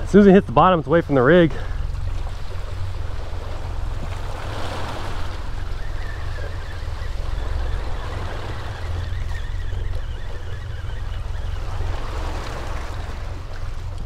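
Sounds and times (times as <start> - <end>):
constant low rumble: 0.0 - 14.0
water lapping against hull: 0.0 - 14.0.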